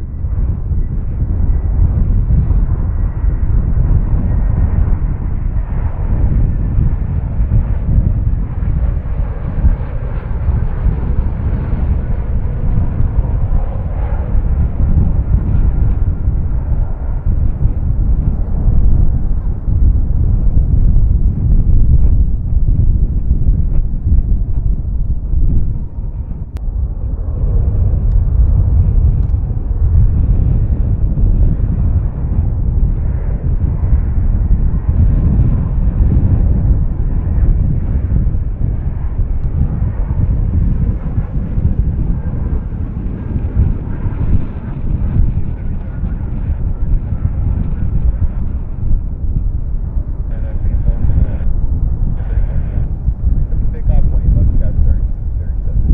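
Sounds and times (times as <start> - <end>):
jet engine low rumble: 0.0 - 55.9
wind buffeting microphone: 0.0 - 55.9.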